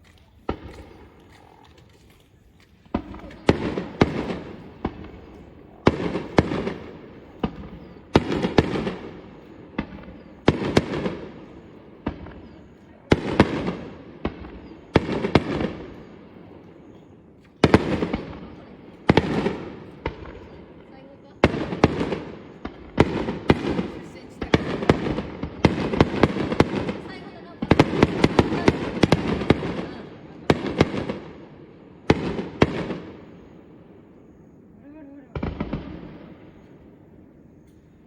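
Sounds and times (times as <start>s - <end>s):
fireworks bursting with echo: 0.0s - 38.0s.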